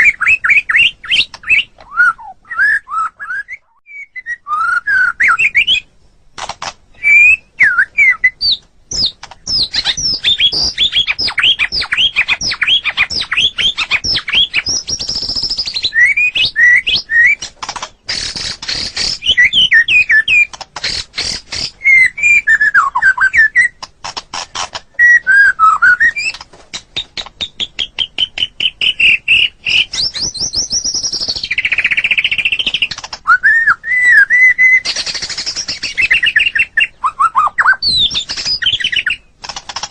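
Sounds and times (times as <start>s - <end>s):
songbird singing varied song: 0.0s - 6.0s, 6.9s - 23.9s, 24.8s - 39.3s.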